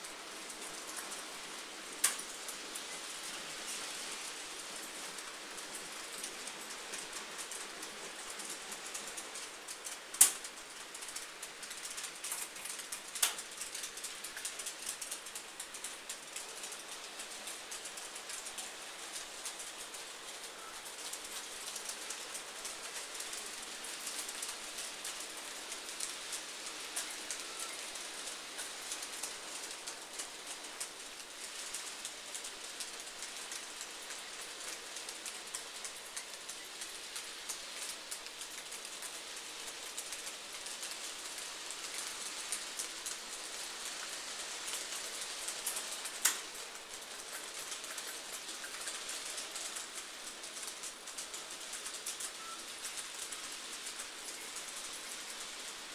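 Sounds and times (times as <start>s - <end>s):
model train wheels rattling on rails: 0.0s - 55.9s.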